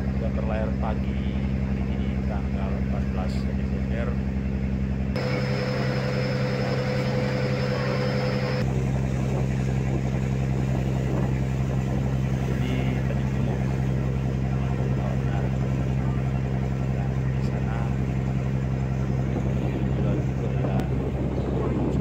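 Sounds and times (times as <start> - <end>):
boat engine droning: 0.0 - 22.0
steady whine: 0.0 - 22.0.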